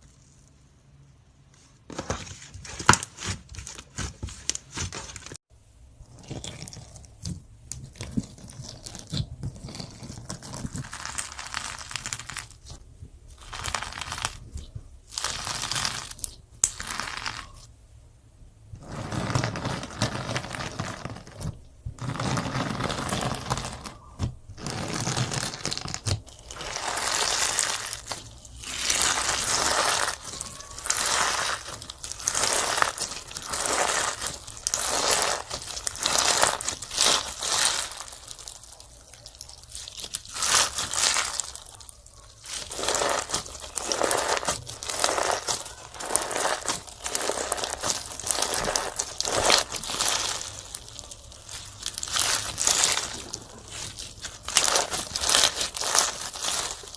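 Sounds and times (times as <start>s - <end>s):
slime squishing: 1.9s - 17.7s, 18.7s - 56.9s.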